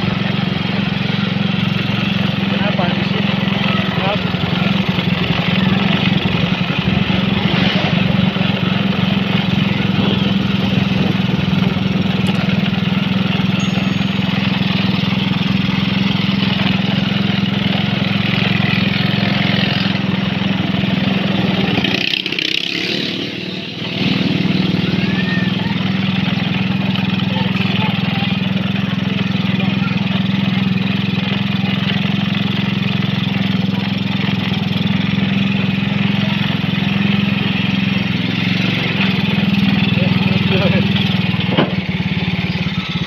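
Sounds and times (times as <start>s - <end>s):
small motorcycle engine running: 0.0s - 43.0s.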